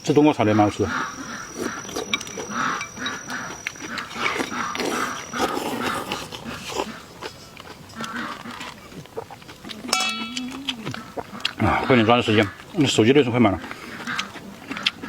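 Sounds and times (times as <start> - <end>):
person chewing food: 0.4 - 15.0.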